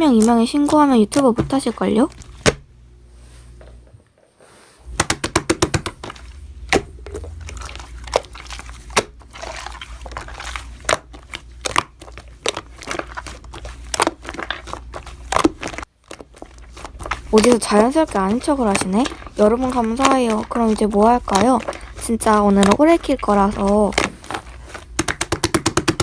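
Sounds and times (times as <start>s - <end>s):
slime squelching: 0.0s - 3.5s, 4.8s - 26.0s
slime clicking and popping: 4.9s - 26.0s.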